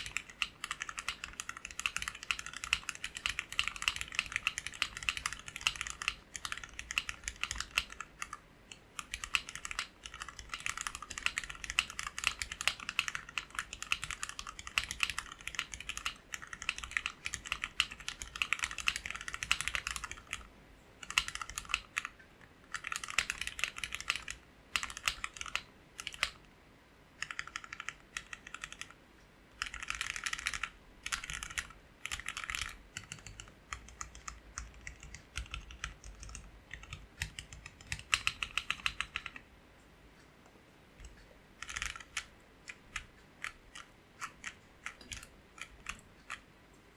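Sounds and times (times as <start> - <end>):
mechanical keyboard typing: 0.0 - 26.5, 27.2 - 39.5, 41.0 - 46.5.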